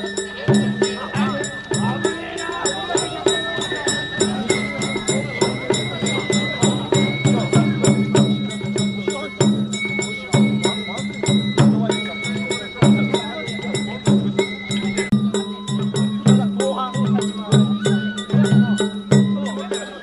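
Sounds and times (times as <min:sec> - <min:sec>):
bamboo flute: 0:00.0 - 0:20.0
drums: 0:00.0 - 0:20.0
small metal gong: 0:00.0 - 0:20.0.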